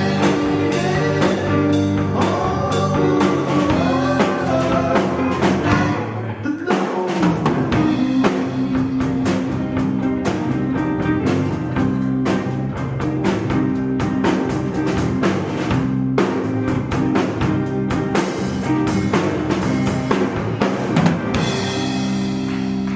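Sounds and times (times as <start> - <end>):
bass guitar: 0.0 - 6.5, 7.2 - 22.9
drum kit beats: 0.0 - 22.9
electric guitar: 0.0 - 22.9.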